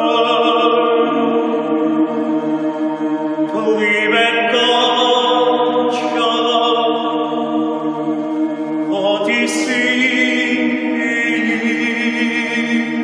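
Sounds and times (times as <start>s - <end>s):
bowed cello: 0.0s - 13.0s
mixed choir singing: 0.0s - 13.0s.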